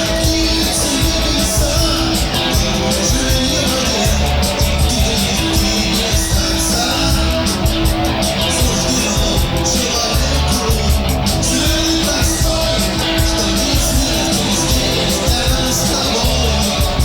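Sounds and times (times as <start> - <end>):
bass guitar: 0.0 - 17.0
drums playing: 0.0 - 17.0
electric guitars: 0.0 - 17.0.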